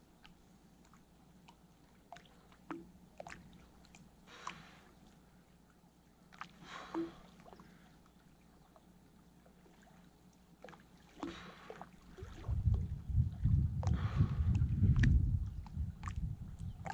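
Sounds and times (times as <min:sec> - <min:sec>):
river water sloshing: 0:00.0 - 0:16.9
small splashes and plops: 0:00.2 - 0:05.4, 0:06.2 - 0:16.9.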